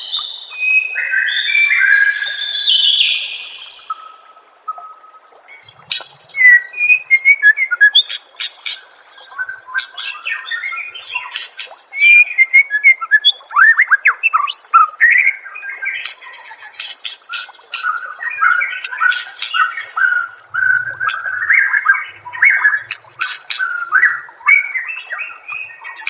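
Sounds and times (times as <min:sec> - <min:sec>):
songbird singing whistled phrases: 0:00.0 - 0:26.0.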